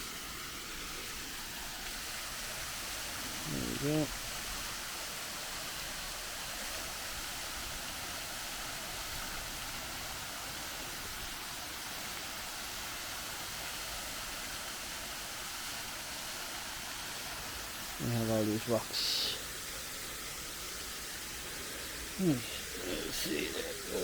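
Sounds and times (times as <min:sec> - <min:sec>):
waterfall crashing onto rocks: 0:00.0 - 0:24.0.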